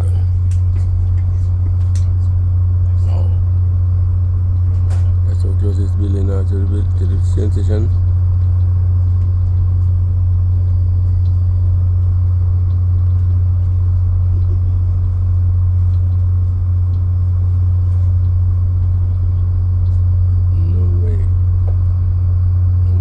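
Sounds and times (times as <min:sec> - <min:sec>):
train interior rumble: 0:00.0 - 0:23.0.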